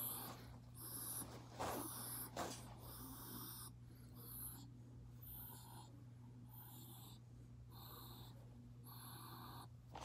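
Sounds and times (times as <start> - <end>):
faint hard breathing: 0.0 - 9.8
steady low hum: 0.0 - 10.0.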